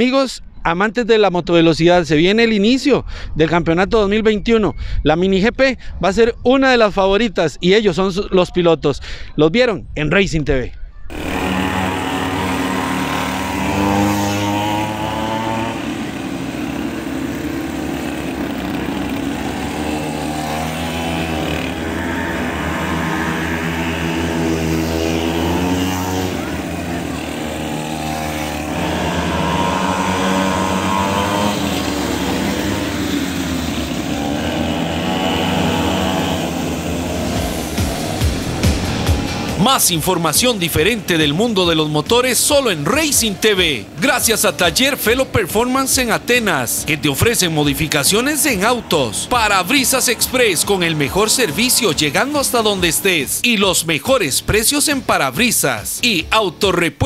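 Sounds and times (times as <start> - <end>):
small motorcycle engines revving: 11.1 - 56.9.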